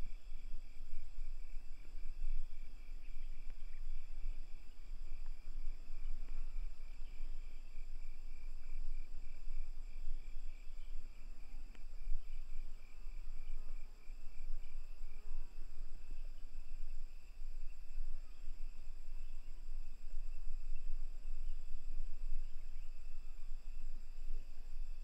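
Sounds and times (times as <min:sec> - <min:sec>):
crickets chirping: 0:00.0 - 0:25.0
insect trills: 0:00.0 - 0:25.0.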